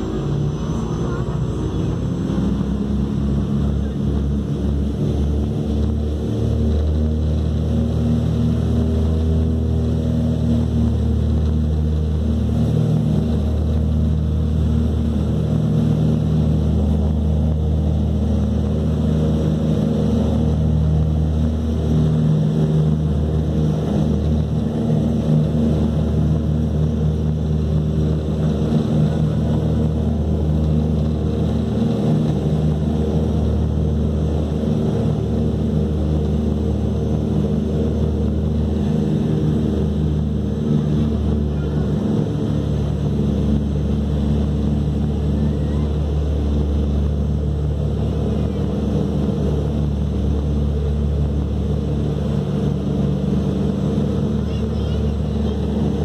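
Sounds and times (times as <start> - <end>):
propeller aircraft engines droning: 0.0 - 56.0.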